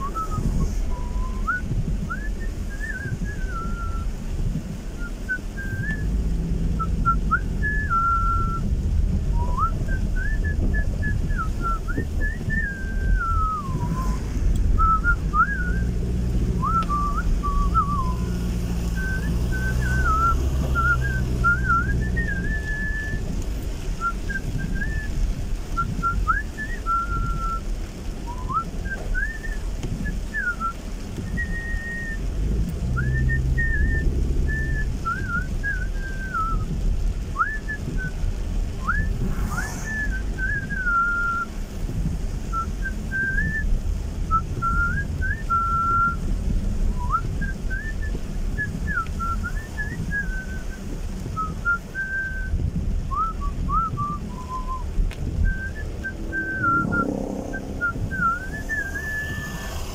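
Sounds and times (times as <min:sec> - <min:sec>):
person whistling a tune: 0:00.0 - 0:04.2, 0:05.0 - 0:23.3, 0:24.0 - 0:27.7, 0:28.3 - 0:36.8, 0:37.4 - 0:38.2, 0:38.8 - 0:41.6, 0:42.5 - 0:46.3, 0:46.9 - 0:59.9
car driving on wet road: 0:00.0 - 0:59.9.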